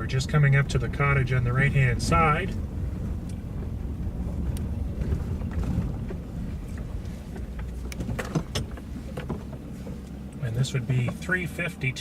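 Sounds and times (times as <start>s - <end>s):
vehicle rumbling slowly: 0.0s - 12.0s.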